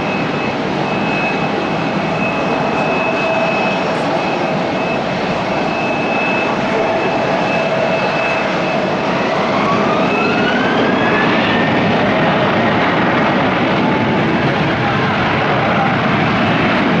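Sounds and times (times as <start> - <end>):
jet engines roaring with whine: 0.0 - 17.0.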